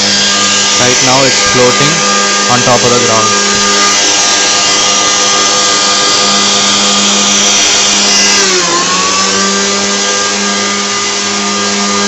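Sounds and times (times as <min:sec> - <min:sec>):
lift fan whining over rushing air: 0:00.0 - 0:12.0.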